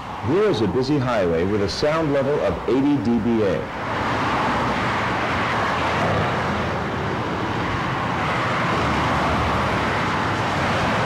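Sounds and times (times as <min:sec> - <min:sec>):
freeway traffic noise: 0:00.0 - 0:11.0.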